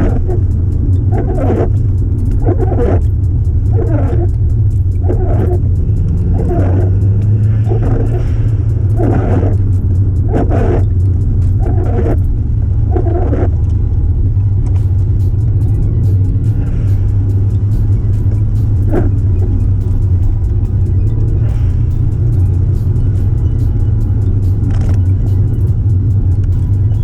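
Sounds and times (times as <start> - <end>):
car engine and road drone: 0.0 - 27.0
pulsing music: 0.0 - 27.0.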